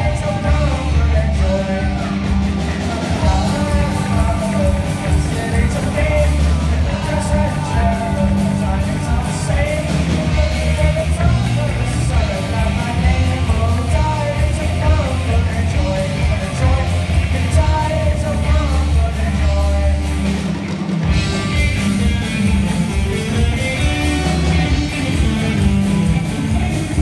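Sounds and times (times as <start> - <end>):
person singing: 0.0 - 20.4, 21.1 - 27.0
bass guitar: 0.0 - 27.0
distorted electric guitars: 0.0 - 27.0
drum kit: 0.0 - 27.0.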